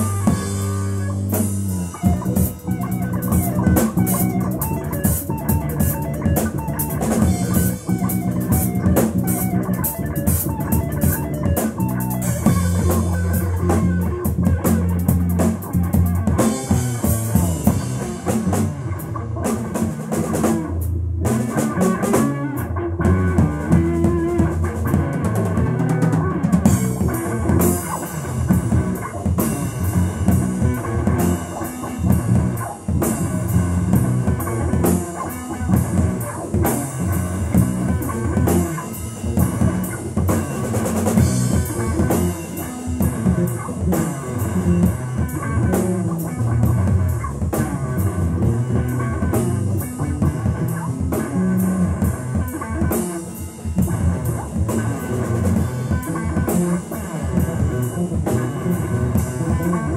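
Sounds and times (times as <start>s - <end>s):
drum kit beat: 0.0s - 59.9s
electric bass: 0.0s - 59.9s
electric guitar: 0.0s - 59.9s.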